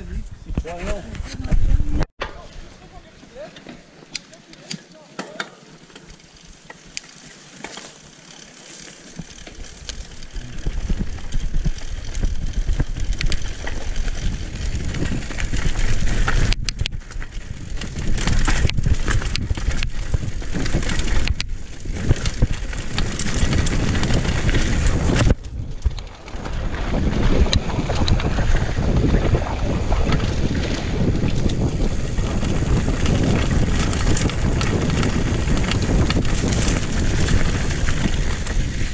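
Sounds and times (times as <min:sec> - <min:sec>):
wind buffeting microphone: 0:00.0 - 0:02.7, 0:10.2 - 0:38.9
mountain bike rumble and rattle: 0:00.0 - 0:38.9.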